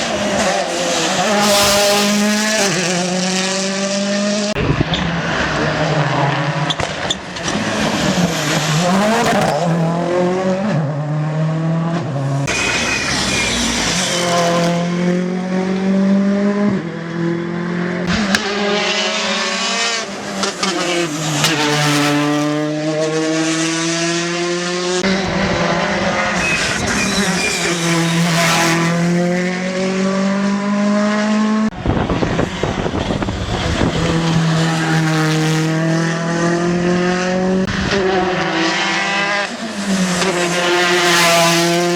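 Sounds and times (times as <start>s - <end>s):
rally car engines revving hard: 0.0s - 41.9s.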